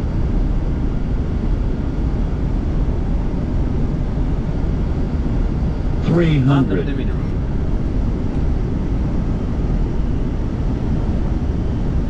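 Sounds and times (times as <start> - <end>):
airflow and engine noise in cockpit: 0.0 - 12.0.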